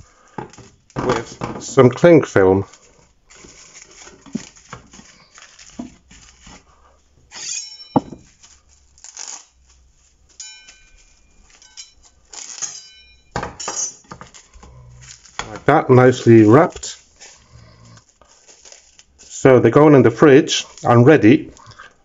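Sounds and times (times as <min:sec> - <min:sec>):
cling film crinkling: 0:00.1 - 0:07.2, 0:08.2 - 0:13.0, 0:14.0 - 0:22.0.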